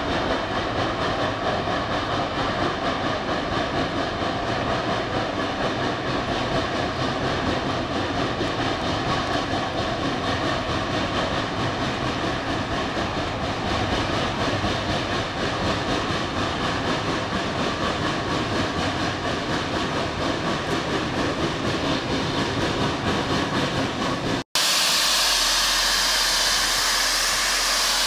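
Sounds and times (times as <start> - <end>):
rail cars rumbling: 0.0 - 28.0
steam hissing: 0.0 - 28.0
steam locomotive exhaust beats: 0.0 - 28.0.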